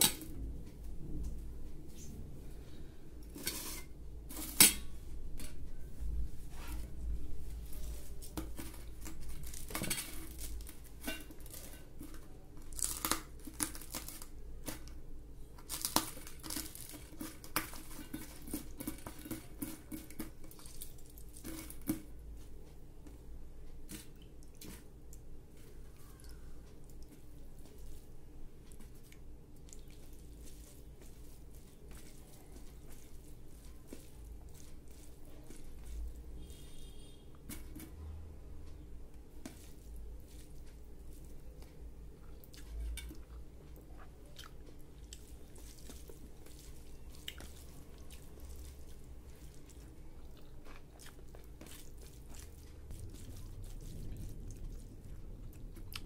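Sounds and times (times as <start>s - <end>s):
wet hand mixing of rice: 6.0s - 37.5s, 38.8s - 56.0s.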